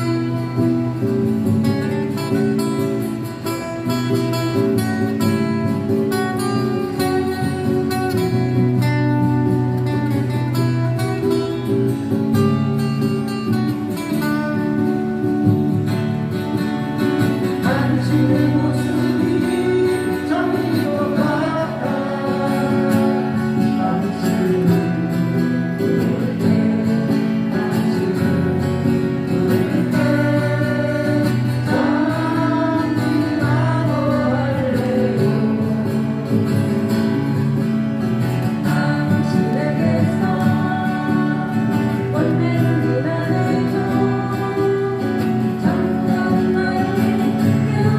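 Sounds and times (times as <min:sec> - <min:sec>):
strummed acoustic guitars: 0:00.0 - 0:47.9.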